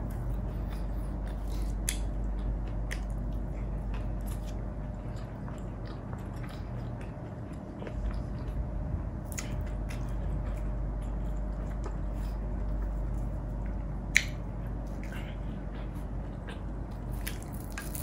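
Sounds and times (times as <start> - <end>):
low background rumble: 0.0 - 18.0
person chewing food: 0.0 - 18.0.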